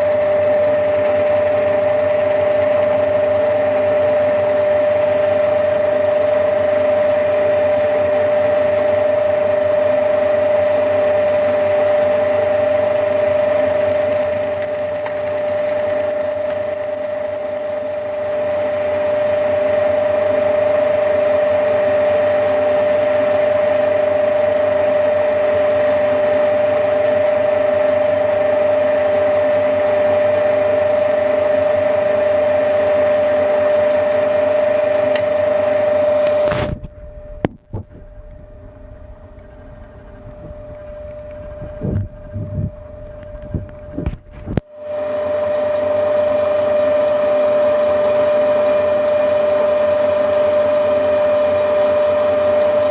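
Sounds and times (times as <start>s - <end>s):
milling machine whining: 0.0s - 52.9s.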